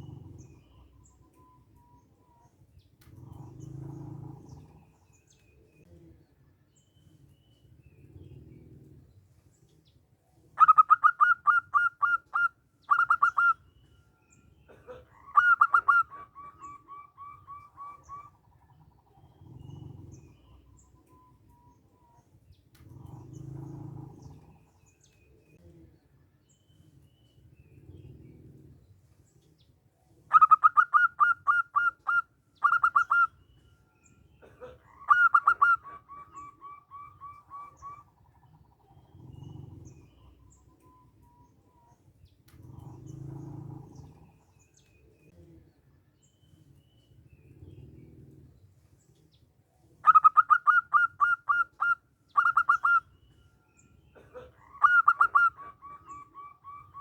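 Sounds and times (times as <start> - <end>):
dove cooing and trilling: 0.0 - 5.8, 10.6 - 25.6, 30.1 - 48.6, 49.2 - 57.0.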